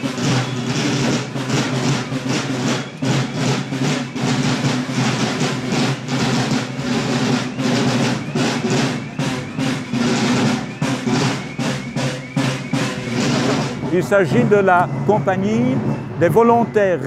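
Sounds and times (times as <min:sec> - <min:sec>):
bass drum: 0:00.0 - 0:15.1
snare drum: 0:00.0 - 0:16.4.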